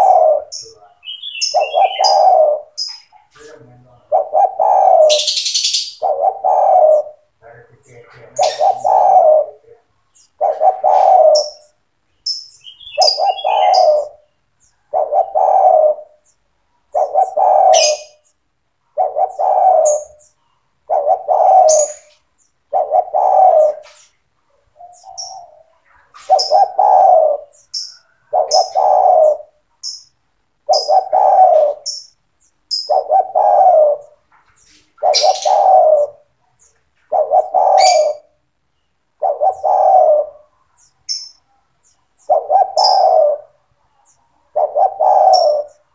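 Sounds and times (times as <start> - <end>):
dove cooing: 0.0 - 30.0, 30.6 - 38.4, 39.1 - 45.9.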